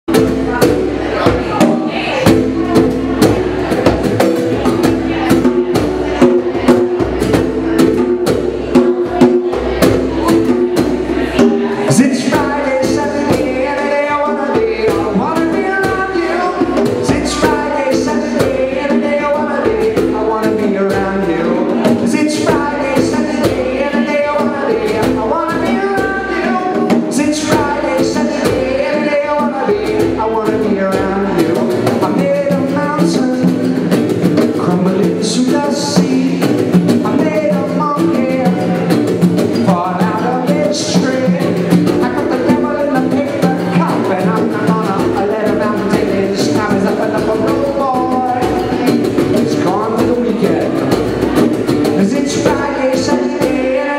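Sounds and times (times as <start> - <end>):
acoustic guitar strumming: 0.1 - 53.9
bongos: 0.1 - 53.9
man singing: 0.1 - 53.9.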